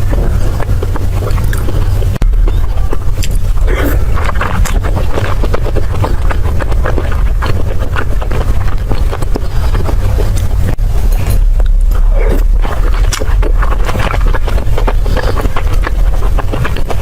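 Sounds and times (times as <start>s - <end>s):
chewing and wet mouth sounds: 0.0s - 17.0s
steady low rumble: 0.0s - 17.0s.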